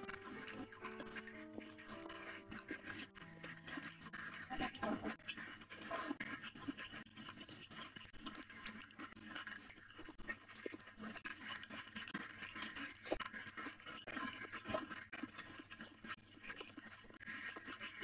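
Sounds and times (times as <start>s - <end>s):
fingers squishing rice and curry: 0.0s - 18.0s
small clicks and squelches: 0.0s - 18.0s
wet chewing and mouth smacks: 0.0s - 18.0s.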